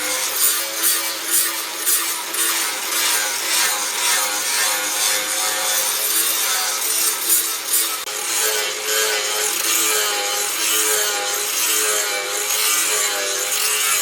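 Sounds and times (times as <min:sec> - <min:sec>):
hand tool rasping: 0:00.0 - 0:14.0.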